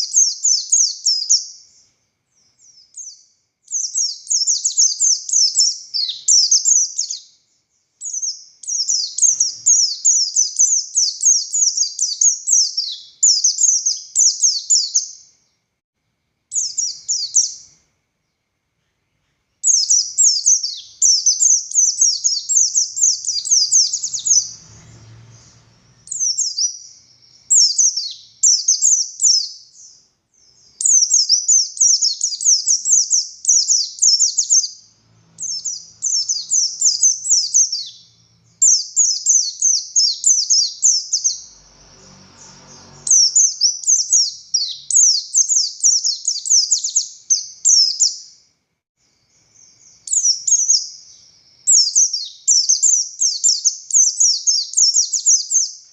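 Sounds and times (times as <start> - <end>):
bird twittering song: 0.0 - 15.6, 16.5 - 55.9.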